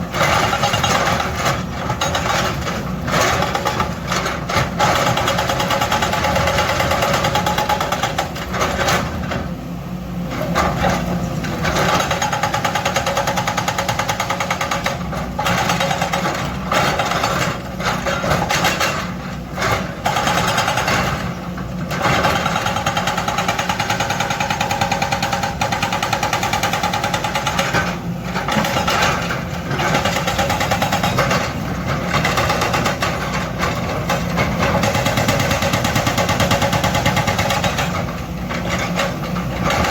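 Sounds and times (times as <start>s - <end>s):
hydraulic breaker hammering rock: 0.0s - 9.5s, 10.4s - 39.9s
excavator engine running: 0.0s - 39.9s.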